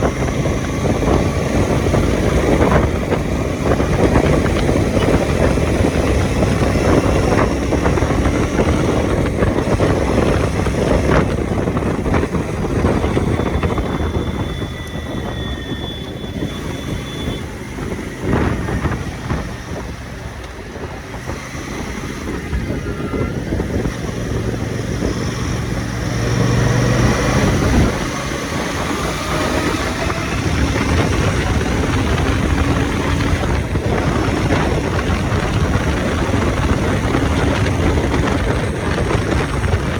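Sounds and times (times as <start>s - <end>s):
motorcycle engine low rumble: 0.0s - 39.9s.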